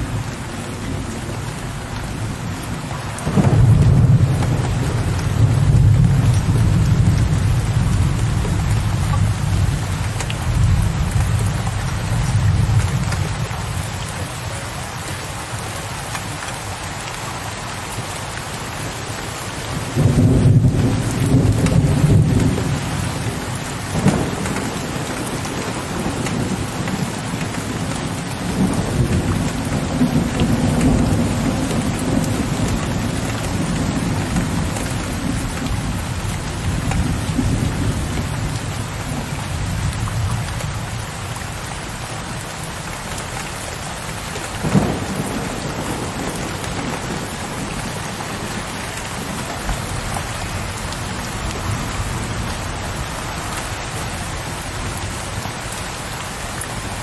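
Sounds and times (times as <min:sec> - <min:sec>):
thunder rumbling: 0:00.0 - 0:13.8, 0:19.8 - 0:41.0, 0:44.6 - 0:55.5
steady rain: 0:00.0 - 0:57.0.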